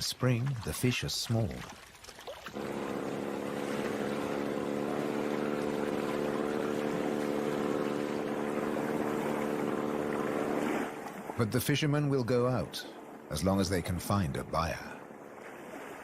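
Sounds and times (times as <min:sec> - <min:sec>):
motorboat engine drone: 0:02.5 - 0:16.0.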